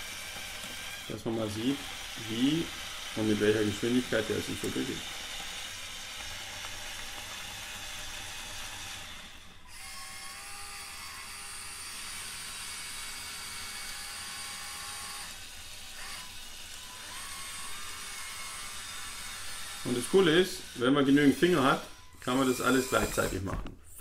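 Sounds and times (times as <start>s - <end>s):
toy electric motors whirring: 0.0s - 23.5s.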